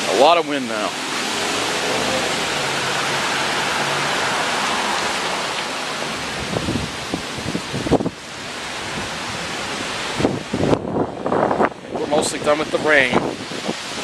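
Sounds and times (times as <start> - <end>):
strong wind gusts: 0.0 - 14.0
wind buffeting microphone: 1.0 - 14.0.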